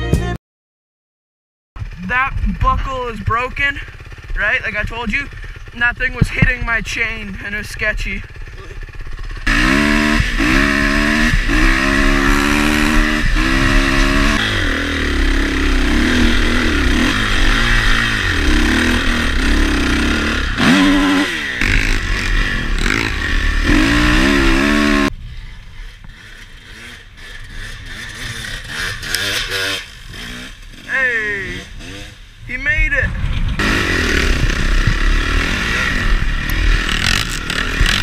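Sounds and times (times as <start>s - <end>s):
dirt bike engine revving: 1.8s - 38.0s
distant engine: 1.8s - 38.0s.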